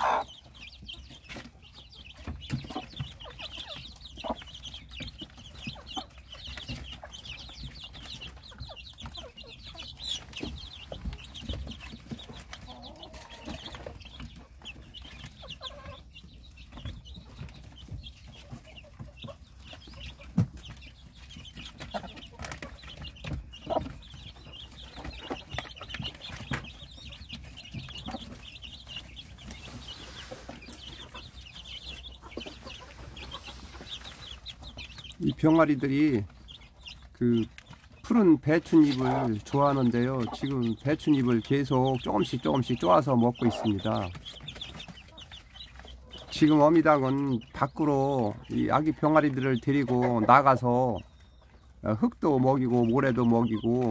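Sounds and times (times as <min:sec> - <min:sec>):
chicks peeping: 0:00.0 - 0:53.9
hen clucking: 0:00.0 - 0:53.9
pecking ticks: 0:00.0 - 0:53.9.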